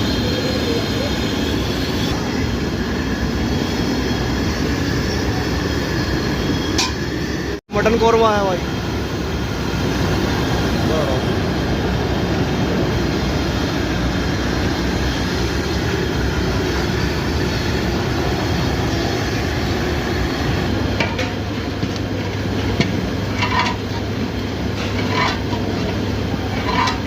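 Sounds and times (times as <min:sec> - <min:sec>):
burners rumbling: 0:00.0 - 0:27.0.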